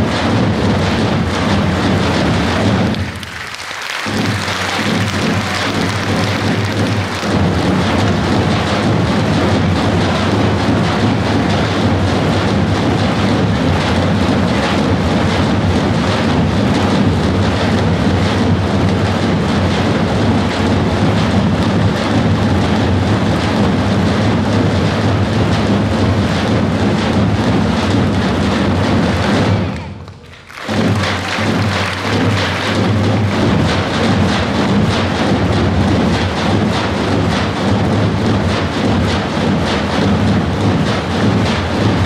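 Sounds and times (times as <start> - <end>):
large folk drums rolling: 0.0 - 42.0.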